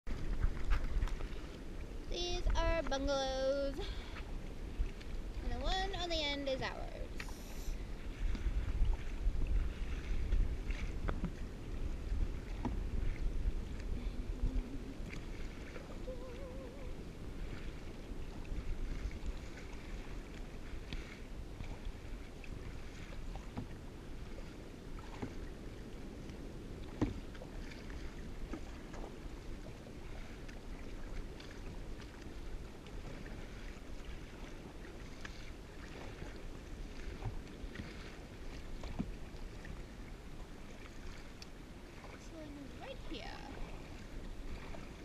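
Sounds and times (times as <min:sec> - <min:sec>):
paddle blades splashing: 0:00.1 - 0:45.0
water lapping against hull: 0:00.1 - 0:45.0
wind on microphone: 0:00.1 - 0:45.0.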